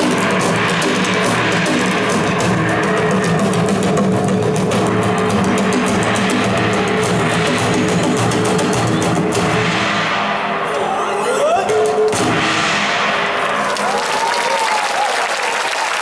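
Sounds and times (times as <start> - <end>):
live band music: 0.0 - 15.2
rapid drum and cymbal strikes: 0.0 - 15.5.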